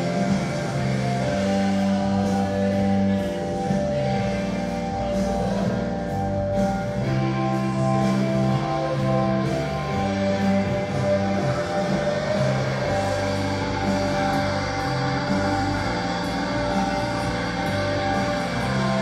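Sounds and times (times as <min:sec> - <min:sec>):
background music with guitar: 0:00.0 - 0:19.0.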